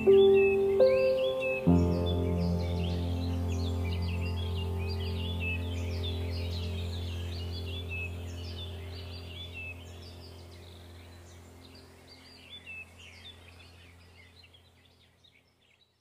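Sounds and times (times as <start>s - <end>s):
low steady musical drone: 0.0s - 14.8s
small birds chirping: 0.0s - 16.0s.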